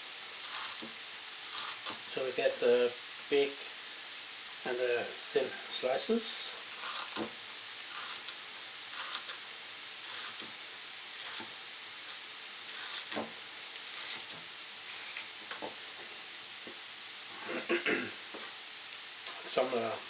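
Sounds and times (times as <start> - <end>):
carrots sizzling in a pan: 0.0 - 20.0.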